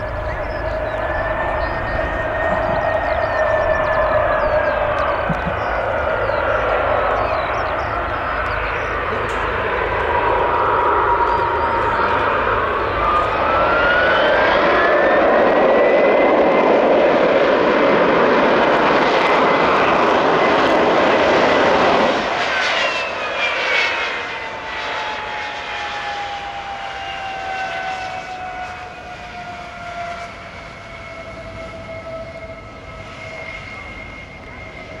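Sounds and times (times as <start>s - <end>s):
jet engine roar and whine: 0.0s - 35.0s.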